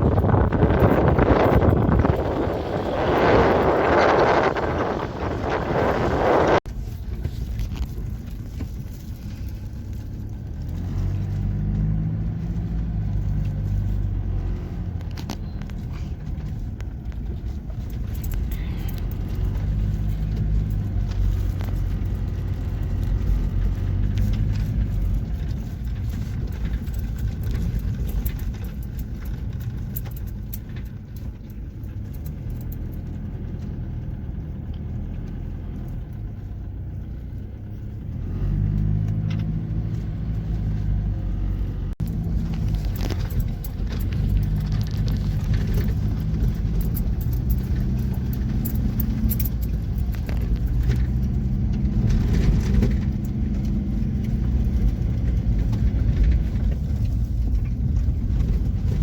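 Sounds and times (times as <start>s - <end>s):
light rattles: 0.0s - 59.0s
vehicle engine rumble: 0.0s - 59.0s.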